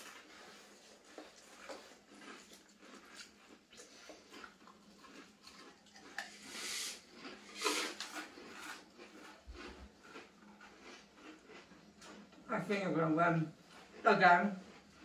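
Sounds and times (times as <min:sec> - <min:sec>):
people chewing crisps: 0:00.0 - 0:15.0.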